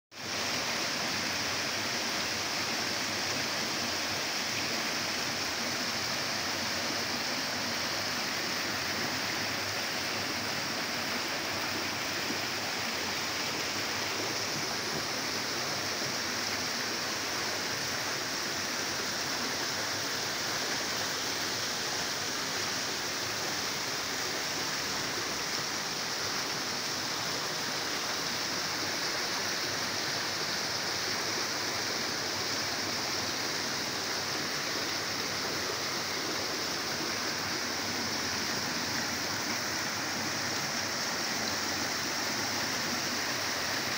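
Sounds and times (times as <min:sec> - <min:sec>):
water rushing over boulders: 0:00.2 - 0:43.9.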